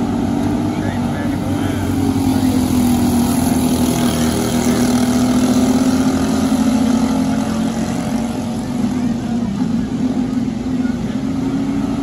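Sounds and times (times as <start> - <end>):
racing kart engines at high revs: 0.0 - 12.0.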